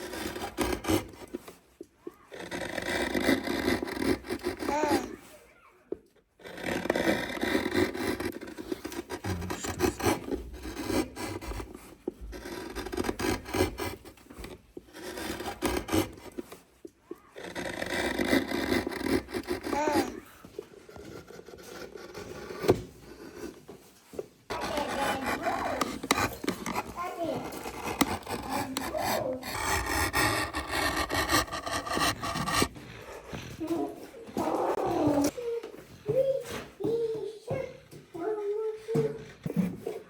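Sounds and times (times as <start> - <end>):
hand tools rasping wood: 0.0 - 40.0.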